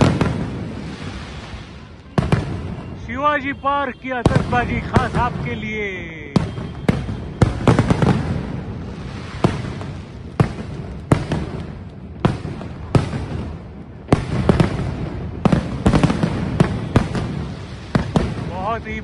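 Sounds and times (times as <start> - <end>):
fireworks bangs: 0.0 - 19.0
rumble of distant explosions: 0.0 - 19.0.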